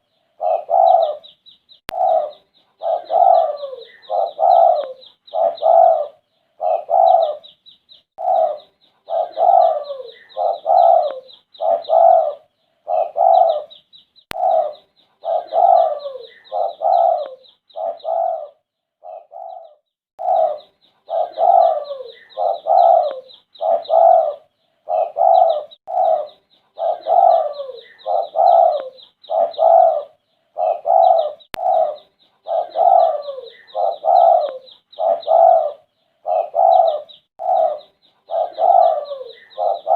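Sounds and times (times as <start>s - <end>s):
dove cooing: 0.0s - 7.6s, 8.2s - 39.9s.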